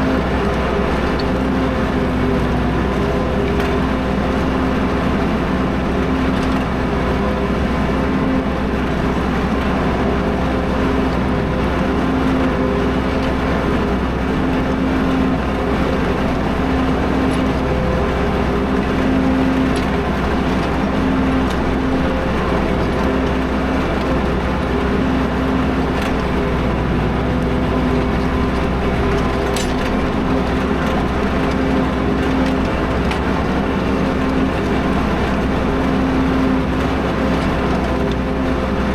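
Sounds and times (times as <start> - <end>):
tractor engine under load: 0.0 - 38.9.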